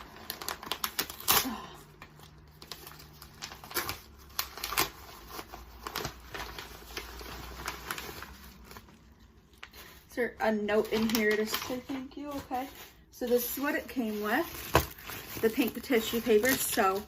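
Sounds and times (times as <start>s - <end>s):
paper torn and crinkled: 0.0s - 10.1s, 10.8s - 17.0s.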